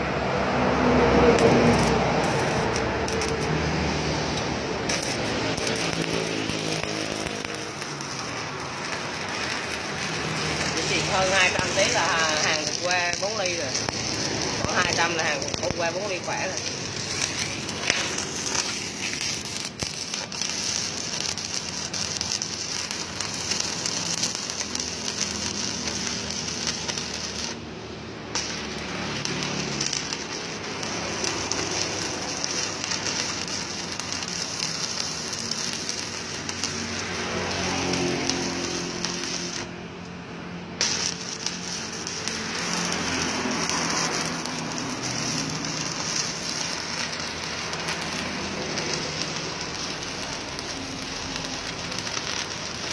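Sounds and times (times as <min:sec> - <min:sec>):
welding arc crackling sizzle: 0:00.0 - 0:52.9.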